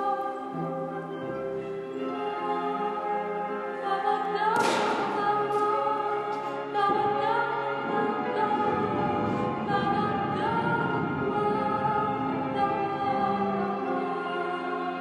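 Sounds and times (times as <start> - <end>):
operatic choir singing: 0.0 - 15.0.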